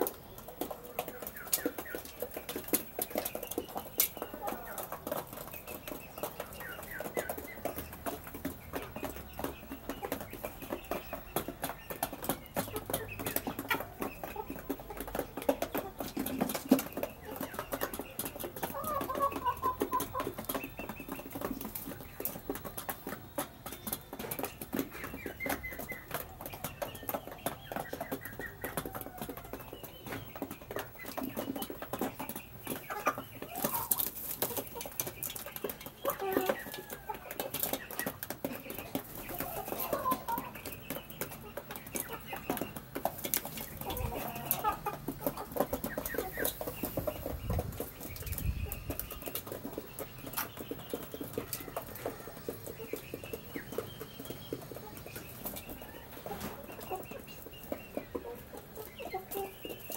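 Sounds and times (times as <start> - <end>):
chickens clucking: 0.0 - 59.9
chickens pecking on hard floor: 0.0 - 59.9.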